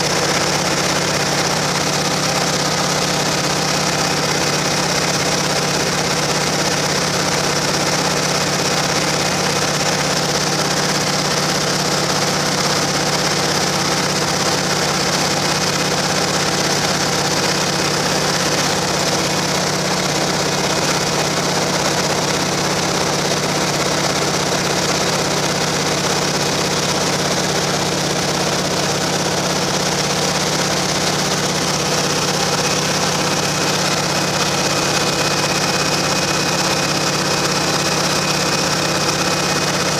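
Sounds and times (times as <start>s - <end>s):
aircraft engine and propeller droning: 0.0s - 39.9s.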